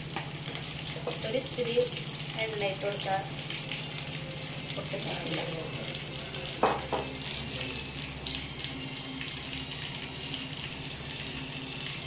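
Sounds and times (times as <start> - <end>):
water boiling and bubbling: 0.0 - 12.0.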